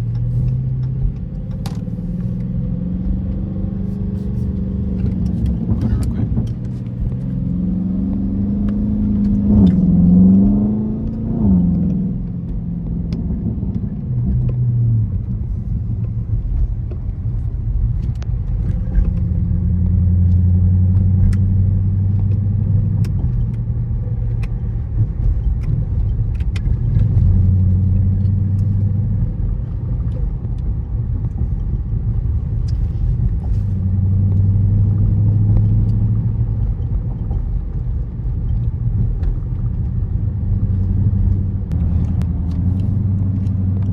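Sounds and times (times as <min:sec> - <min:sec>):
car engine running while driving: 0:00.0 - 0:43.9.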